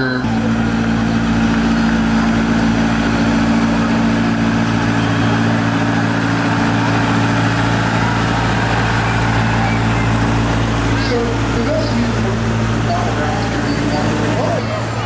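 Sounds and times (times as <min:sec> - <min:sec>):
vehicle engine idling: 0:00.0 - 0:14.6.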